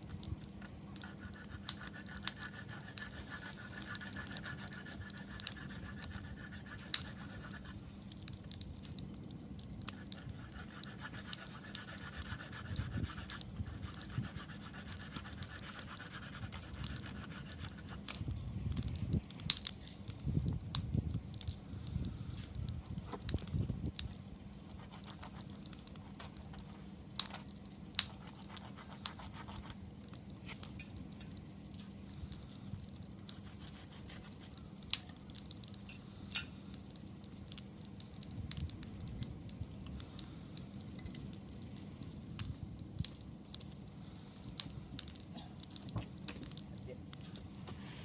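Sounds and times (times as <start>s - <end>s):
low steady rush: 0.0s - 48.0s
wood fire crackling and popping: 0.0s - 48.0s.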